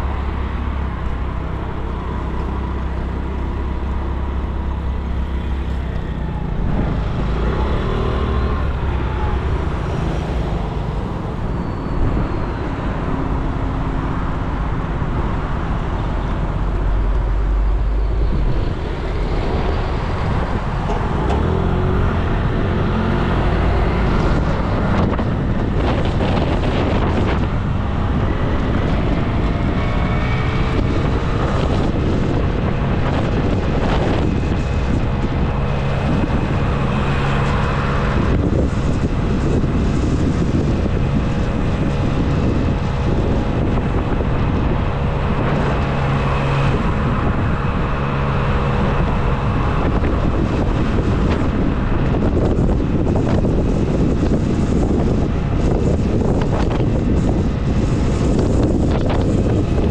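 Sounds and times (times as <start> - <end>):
road traffic: 0.0 - 59.9
wind rushing over microphone: 0.0 - 59.9.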